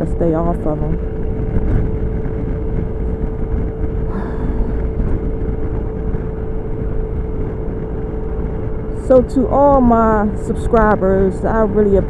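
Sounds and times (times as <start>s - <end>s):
scooter engine hum: 0.0s - 12.0s
wind rumble on microphone: 0.0s - 12.0s.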